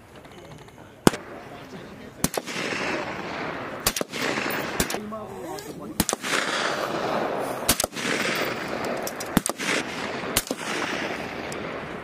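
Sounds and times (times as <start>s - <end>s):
suppressed rifle shots echoing: 1.0s - 5.2s, 6.0s - 12.0s.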